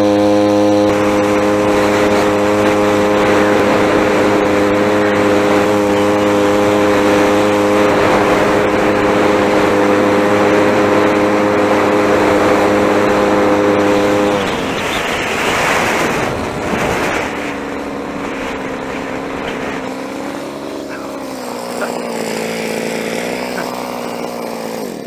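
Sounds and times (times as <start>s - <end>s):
small two-stroke engine straining: 0.0s - 25.0s
wind and road noise: 0.0s - 25.0s.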